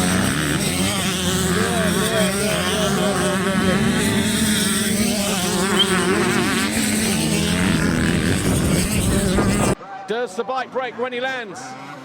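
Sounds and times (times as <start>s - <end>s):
motocross bike engines revving: 0.0s - 9.8s.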